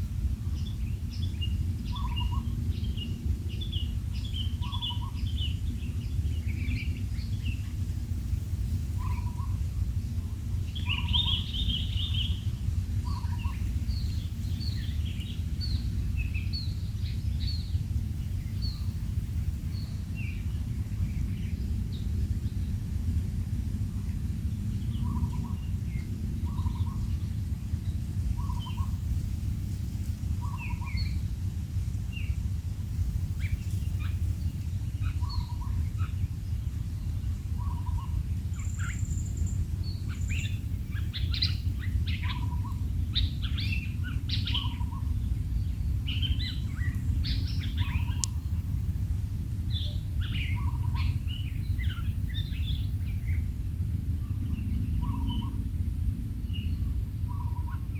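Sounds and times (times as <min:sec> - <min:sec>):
steady low rumble: 0:00.0 - 0:57.9
bird low call: 0:00.1 - 0:53.5, 0:54.2 - 0:55.8, 0:56.4 - 0:57.9.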